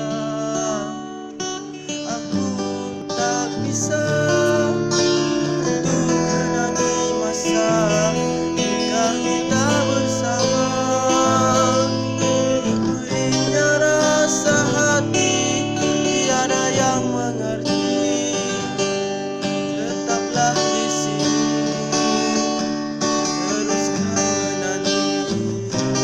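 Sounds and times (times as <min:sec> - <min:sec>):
acoustic guitar strumming chords: 0:00.0 - 0:26.0
sliding guitar melody: 0:00.0 - 0:26.0.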